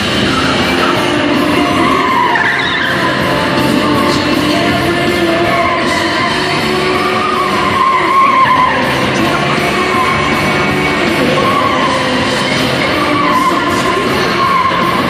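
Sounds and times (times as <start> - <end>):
car engines running: 0.0 - 15.0
loud music: 0.0 - 15.0
tyres squealing: 0.0 - 15.0.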